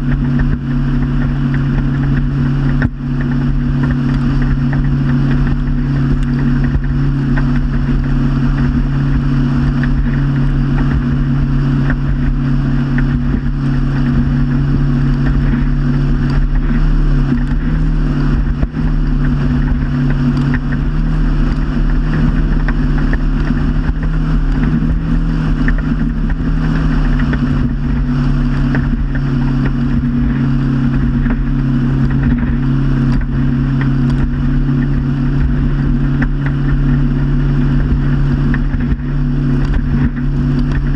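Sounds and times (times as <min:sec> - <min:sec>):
motorboat engine running: 0:00.0 - 0:40.9
rush of water and wind: 0:00.0 - 0:40.9.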